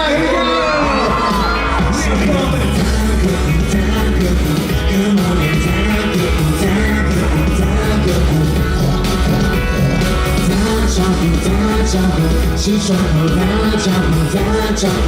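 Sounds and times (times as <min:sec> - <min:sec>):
live pop-rock band: 0:00.0 - 0:15.0.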